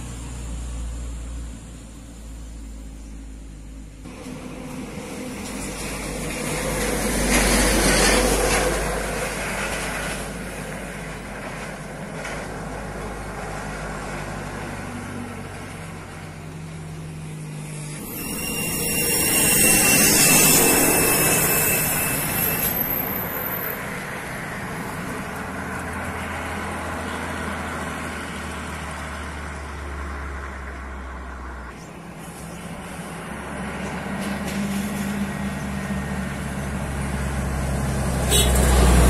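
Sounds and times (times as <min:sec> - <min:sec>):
diesel truck engines droning: 0:00.0 - 0:39.0
truck passing with whine: 0:00.0 - 0:39.0.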